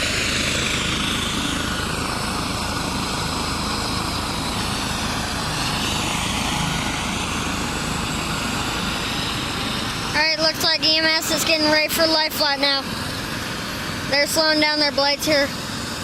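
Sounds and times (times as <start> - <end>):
helicopter rotor and engine running: 0.0 - 16.0.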